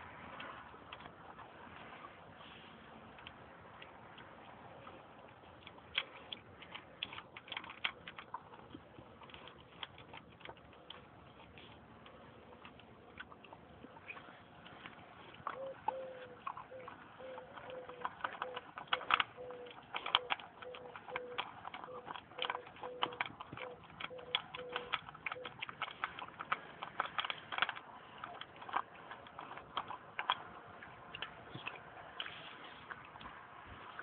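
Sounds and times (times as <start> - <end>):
dog crunching kibble: 0.0 - 34.0.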